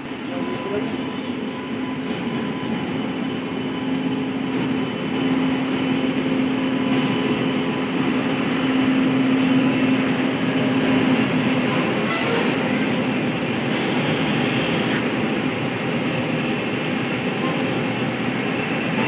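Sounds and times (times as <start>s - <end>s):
electric locomotive humming: 0.0s - 19.0s.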